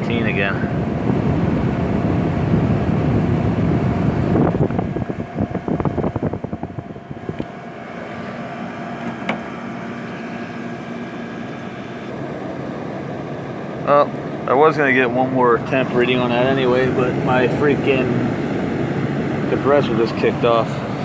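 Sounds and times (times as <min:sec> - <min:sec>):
air conditioner compressor humming: 0:00.0 - 0:21.0
air conditioner fan hum: 0:00.0 - 0:21.0.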